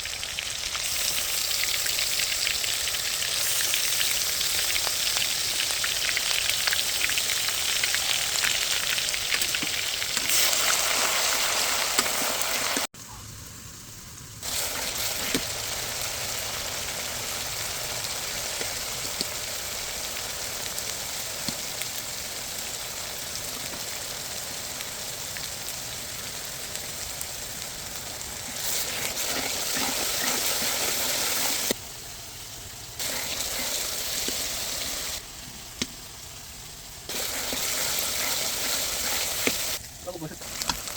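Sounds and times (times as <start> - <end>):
meat sizzling in oil: 0.0 - 12.9, 13.6 - 40.9.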